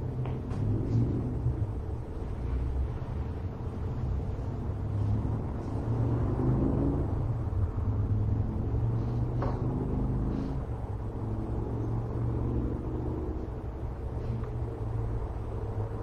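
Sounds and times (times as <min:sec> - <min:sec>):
hum: 0:00.0 - 0:16.0
steady low rumble: 0:00.0 - 0:16.0.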